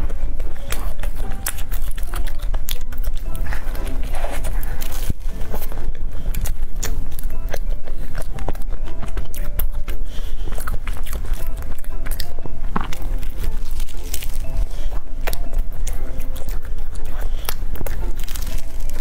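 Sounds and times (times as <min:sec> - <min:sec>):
biting and chewing pastry: 0:00.0 - 0:19.0
crisp pastry crunching: 0:00.0 - 0:19.0.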